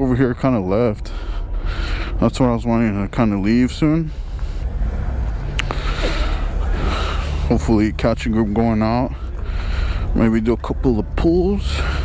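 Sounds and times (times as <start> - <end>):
motorcycle engine running: 0.9 - 12.0.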